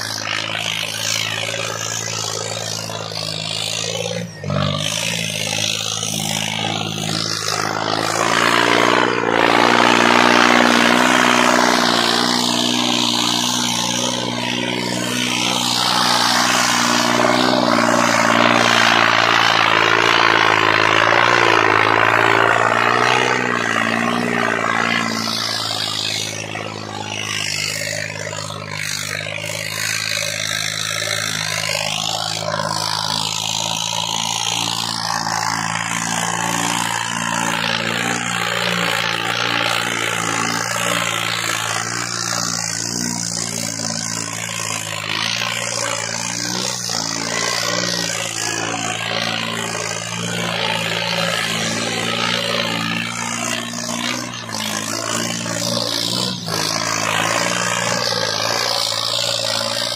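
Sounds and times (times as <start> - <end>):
disc harrow dragging through soil: 0.0 - 29.1, 30.0 - 59.9
tractor diesel engine under load: 0.0 - 59.9.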